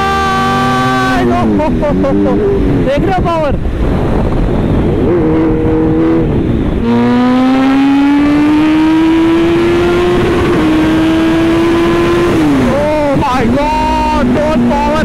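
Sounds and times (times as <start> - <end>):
motorcycle engine under full throttle: 0.0 - 15.0.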